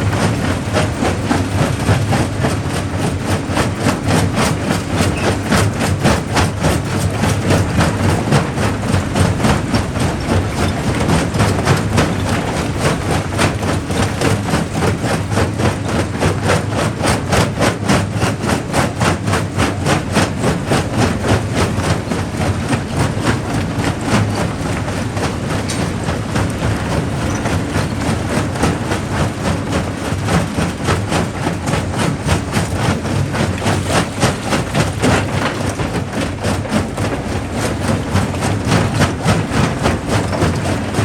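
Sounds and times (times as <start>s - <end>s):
rock crusher rumbling: 0.0s - 41.0s.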